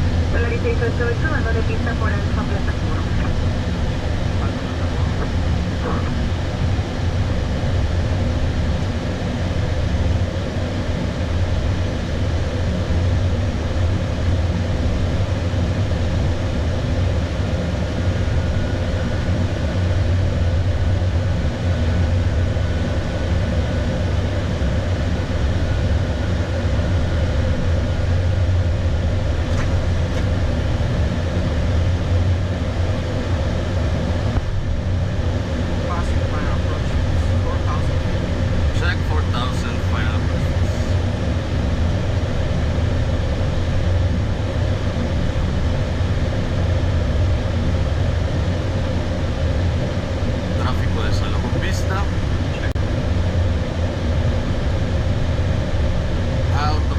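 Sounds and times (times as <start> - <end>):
aircraft engine noise: 0.0 - 56.9
faint steady whine: 0.0 - 56.9.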